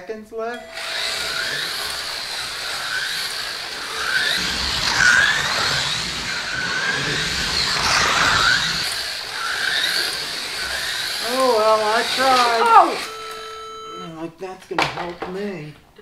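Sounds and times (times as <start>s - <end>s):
slot car motors whining: 0.5s - 14.1s.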